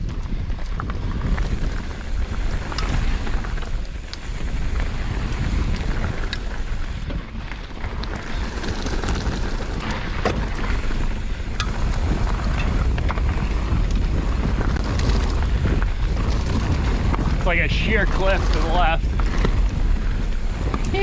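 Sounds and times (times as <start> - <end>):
bike clicks and knocks on rock: 0.0 - 21.0
wind rumbling on microphone: 0.0 - 21.0.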